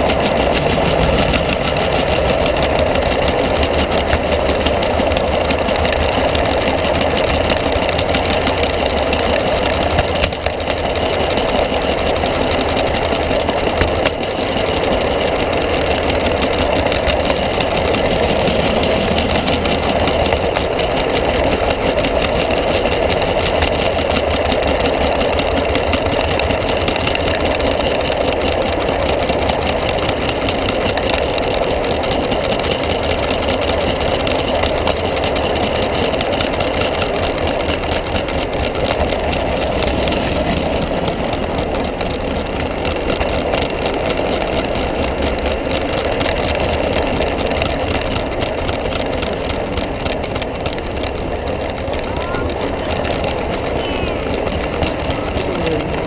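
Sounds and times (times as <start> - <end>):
model train wheels rattling on rails: 0.0 - 56.0.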